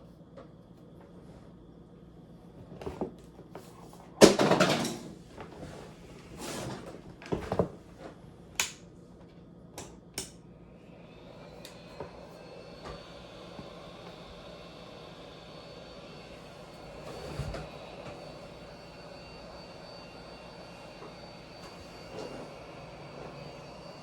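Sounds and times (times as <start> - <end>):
faint hum with high whine: 0.0 - 24.0.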